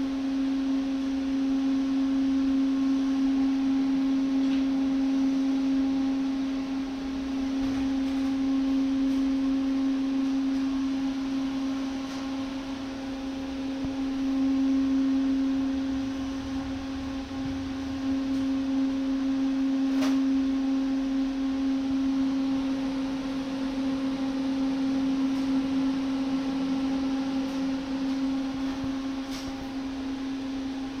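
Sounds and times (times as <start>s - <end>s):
welding power source humming: 0.0s - 31.0s.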